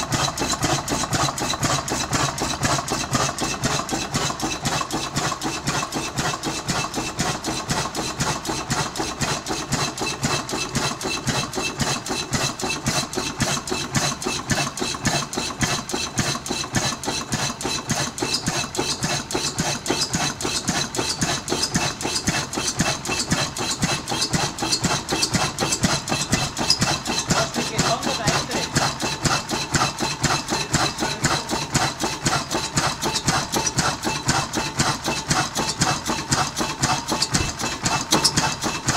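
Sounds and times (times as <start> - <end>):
diesel engine rhythmic clatter: 0.0 - 38.9.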